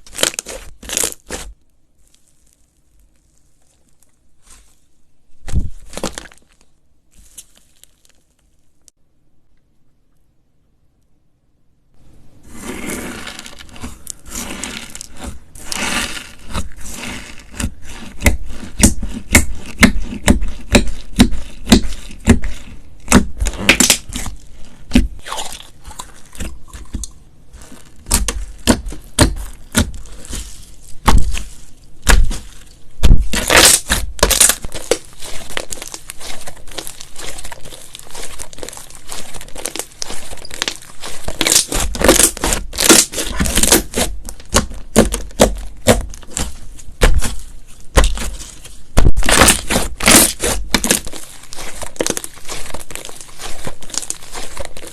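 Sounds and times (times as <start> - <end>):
slime crackling and popping: 0.0 - 4.2, 13.3 - 54.9.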